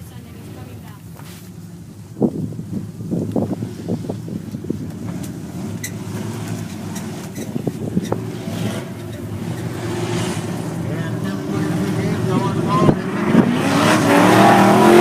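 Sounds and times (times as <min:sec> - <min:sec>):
stock car engines droning: 0:00.0 - 0:15.0.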